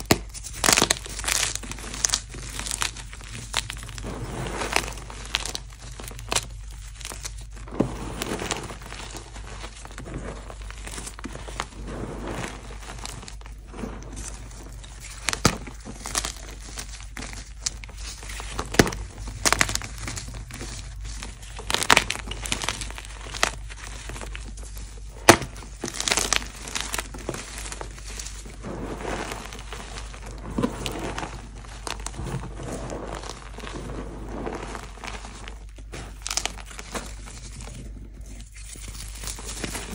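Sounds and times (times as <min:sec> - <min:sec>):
hands crumbling chalk: 0:00.0 - 0:39.9.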